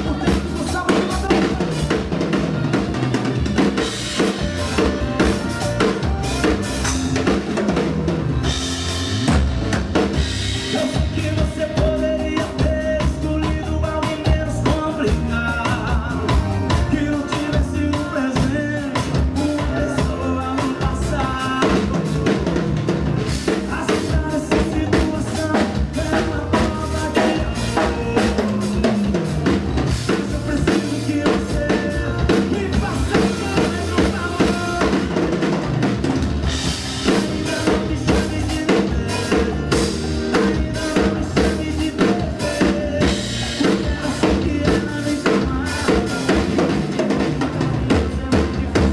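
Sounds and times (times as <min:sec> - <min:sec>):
drum kit playing: 0:00.0 - 0:48.9
recorded band music: 0:00.0 - 0:48.9.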